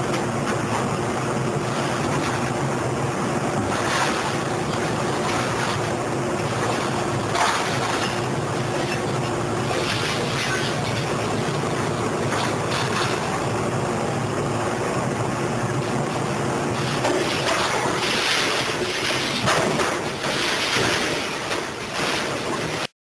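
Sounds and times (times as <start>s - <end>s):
diesel engine and hydraulics: 0.0s - 22.9s.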